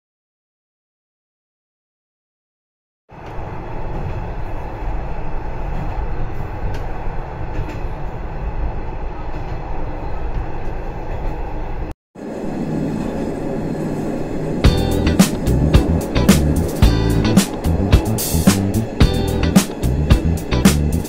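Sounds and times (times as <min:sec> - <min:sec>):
railcar engine rumble: 0:03.1 - 0:21.0
train wheels on rails: 0:03.1 - 0:21.0.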